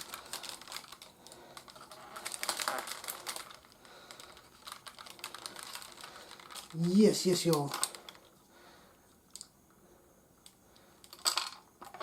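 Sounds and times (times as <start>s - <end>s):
plastic toys clicking and rattling: 0.0s - 8.3s, 10.4s - 12.0s.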